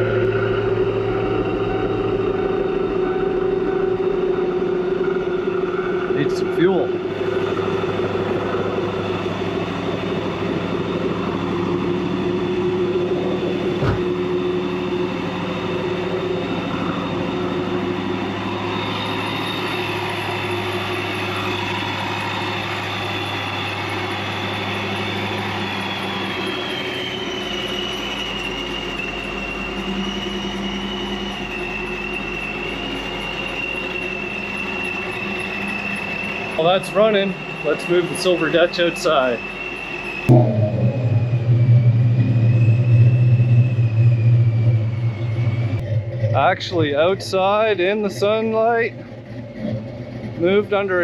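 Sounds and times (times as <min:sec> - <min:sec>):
car engine idling with whine: 0:00.0 - 0:51.0.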